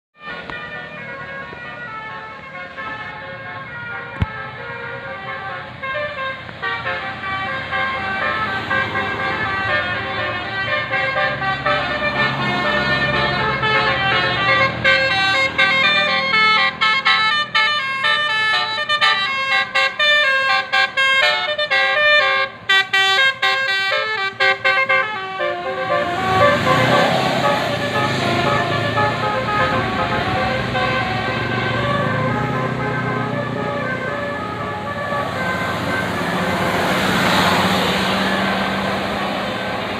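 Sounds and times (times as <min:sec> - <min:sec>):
bus musical air horn melody: 0:00.2 - 0:39.9.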